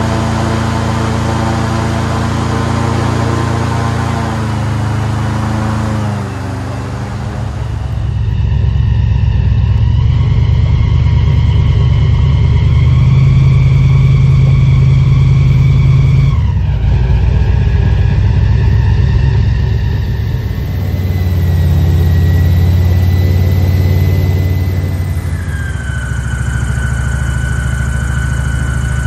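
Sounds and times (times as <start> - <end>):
airboat engine and propeller: 0.0 - 29.0.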